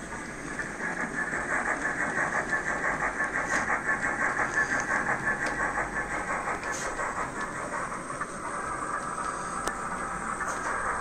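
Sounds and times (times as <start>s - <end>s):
model trains running: 0.0s - 11.0s.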